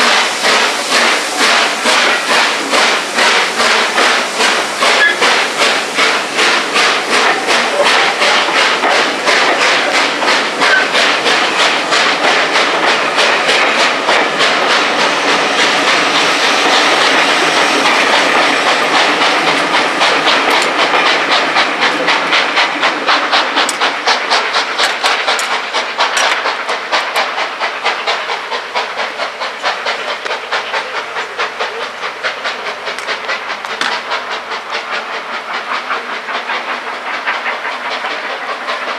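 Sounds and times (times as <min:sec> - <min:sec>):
steam hiss: 0:00.0 - 0:38.9
steam locomotive chugging: 0:00.0 - 0:38.9.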